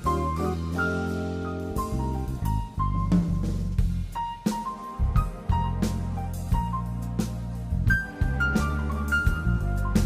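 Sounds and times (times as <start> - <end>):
drum kit: 0.0 - 10.0
keyboard chords: 0.0 - 10.0.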